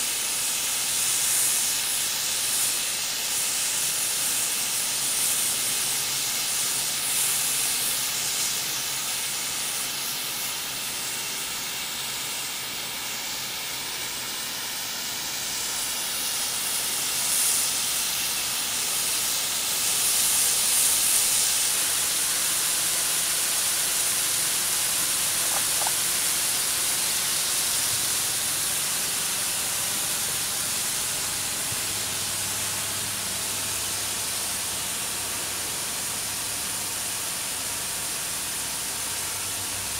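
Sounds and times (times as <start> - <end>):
snow gun nozzle hissing: 0.0 - 39.9.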